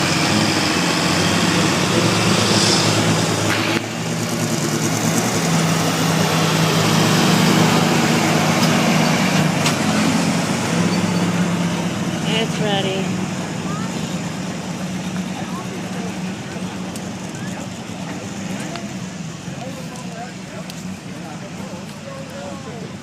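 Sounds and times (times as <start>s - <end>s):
loud vehicle engine running: 0.0s - 23.0s.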